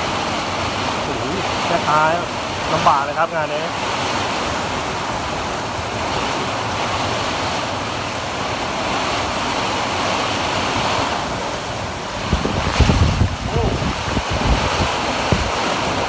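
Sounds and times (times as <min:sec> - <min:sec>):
heavy rain pouring: 0:00.0 - 0:16.0
wind buffeting microphone: 0:00.0 - 0:16.0.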